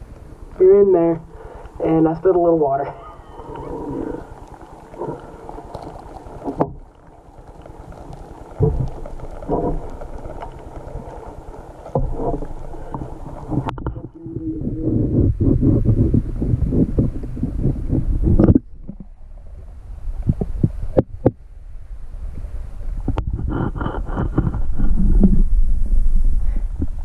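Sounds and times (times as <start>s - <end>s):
muffled underwater rumbling and sloshing: 0.0s - 27.0s.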